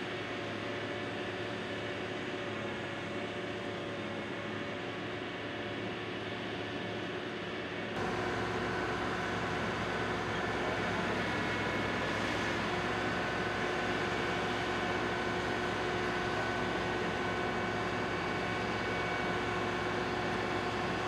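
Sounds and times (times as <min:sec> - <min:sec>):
diesel engine drone with whine: 0:00.0 - 0:21.0.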